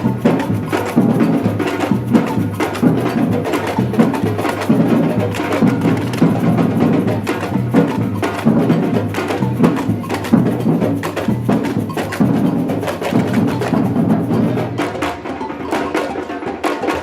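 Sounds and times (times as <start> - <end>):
samba percussion group: 0.0 - 17.0.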